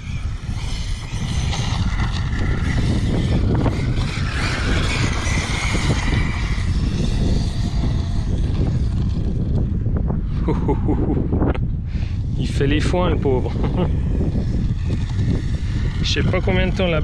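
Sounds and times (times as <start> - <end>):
electric motor whining: 0.0 - 10.3, 11.2 - 17.0
low rumble: 0.0 - 17.0.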